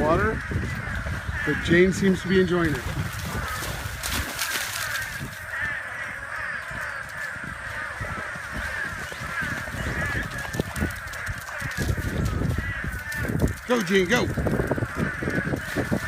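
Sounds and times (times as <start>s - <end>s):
chorus of warbling animal calls: 0.0s - 16.0s.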